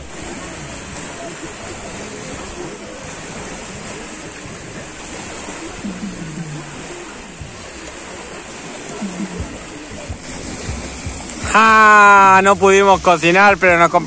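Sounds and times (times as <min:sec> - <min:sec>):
rushing background noise: 0:00.0 - 0:14.0.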